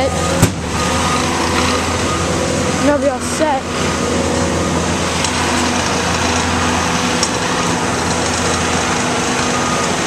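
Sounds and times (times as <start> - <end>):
diesel engine running steadily: 0.0 - 10.0.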